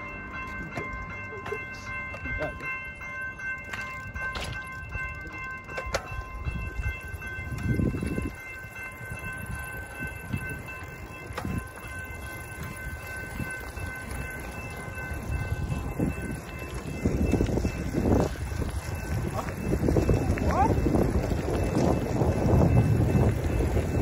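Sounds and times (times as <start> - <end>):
crossing warning bell ringing: 0.0 - 24.0.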